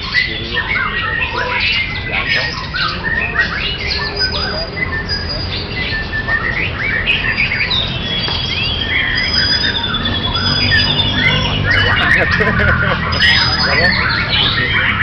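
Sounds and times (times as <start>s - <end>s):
bird whistles and chirps: 0.0s - 15.0s.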